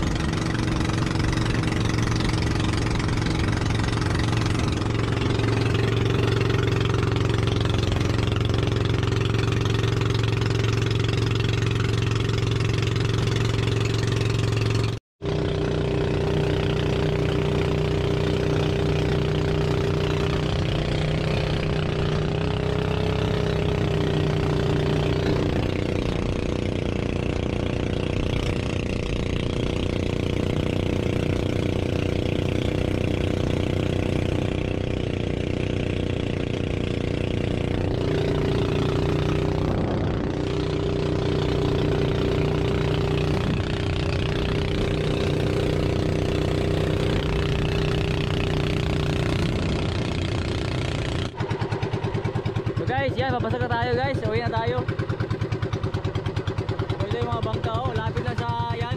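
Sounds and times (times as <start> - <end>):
boat engine running: 0.0 - 58.9
water rushing along hull: 0.0 - 58.9.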